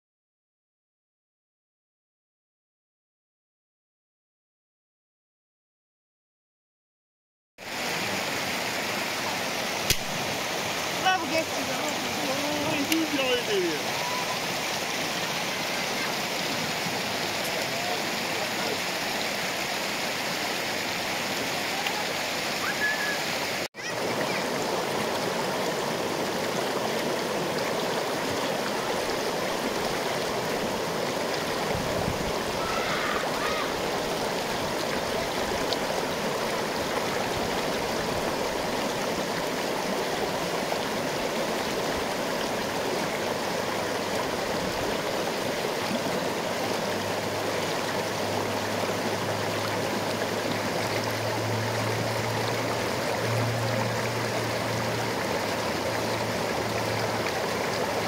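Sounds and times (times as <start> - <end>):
river water rushing over rocks: 7.6 - 58.0.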